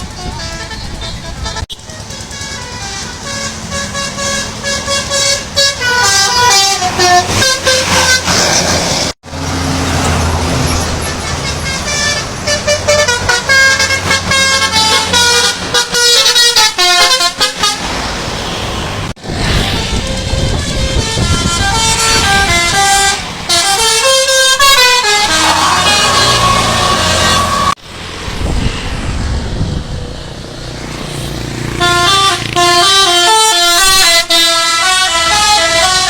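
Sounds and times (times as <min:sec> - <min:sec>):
multi-tone bus horns: 0:00.0 - 0:27.8, 0:31.6 - 0:36.0
low bus rumble: 0:00.0 - 0:36.0.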